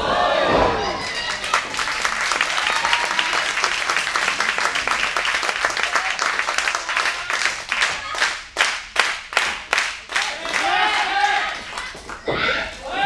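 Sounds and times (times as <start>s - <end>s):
crowd clapping: 0.9s - 13.0s.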